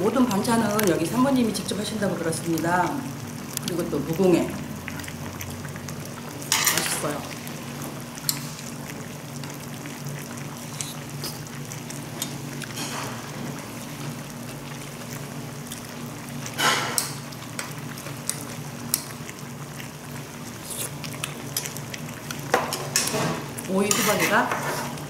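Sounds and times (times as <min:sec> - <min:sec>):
stew bubbling in pot: 0:00.0 - 0:25.0.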